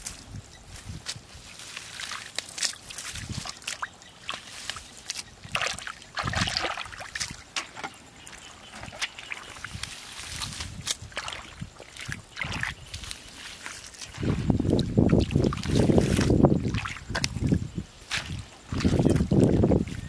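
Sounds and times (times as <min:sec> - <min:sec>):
weeds and dry grass rustling: 0:00.0 - 0:20.0
wet mud squelching: 0:01.6 - 0:20.0
small water splashes: 0:02.0 - 0:19.9.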